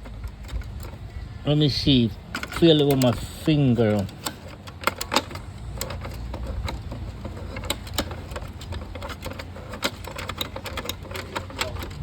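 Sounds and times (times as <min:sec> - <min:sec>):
plastic printer parts clicking: 0:00.0 - 0:12.0.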